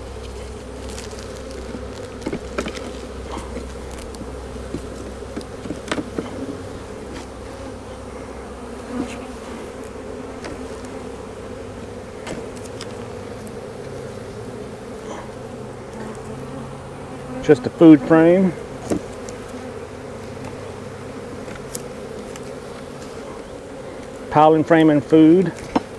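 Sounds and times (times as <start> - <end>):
honey bees buzzing: 0.0 - 25.9.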